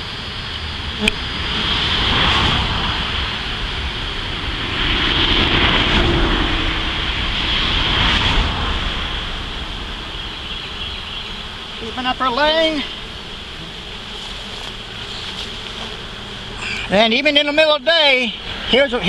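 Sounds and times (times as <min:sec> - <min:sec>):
highway traffic passing: 0:00.0 - 0:19.0.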